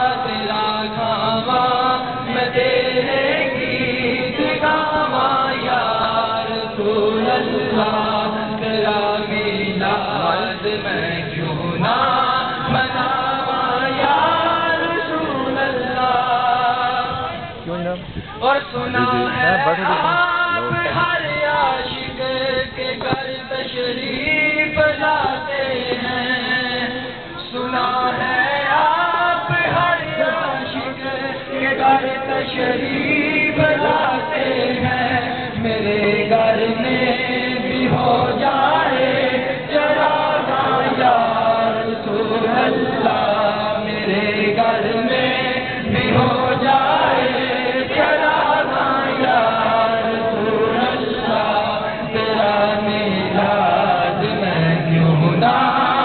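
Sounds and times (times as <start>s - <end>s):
crowd of men chanting: 0.0s - 17.6s, 18.4s - 56.0s.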